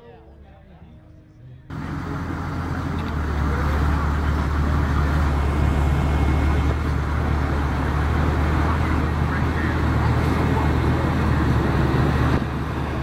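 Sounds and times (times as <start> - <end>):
car engine exhaust rumble: 1.7 - 13.0.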